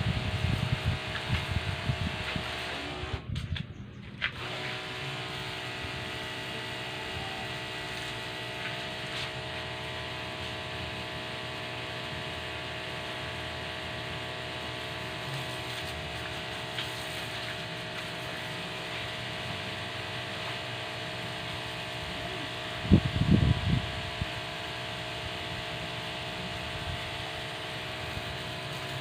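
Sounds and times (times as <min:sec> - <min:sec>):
pressure washer humming: 0:00.0 - 0:03.4, 0:04.2 - 0:29.0.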